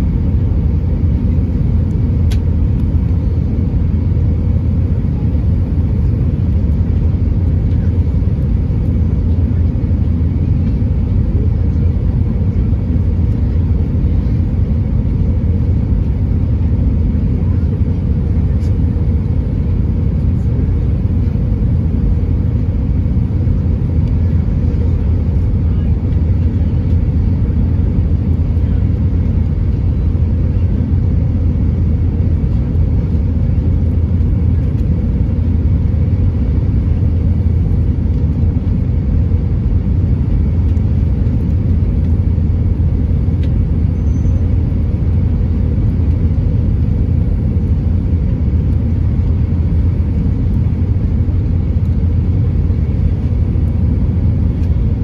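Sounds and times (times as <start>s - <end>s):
aircraft engines rumbling: 0.0s - 55.0s.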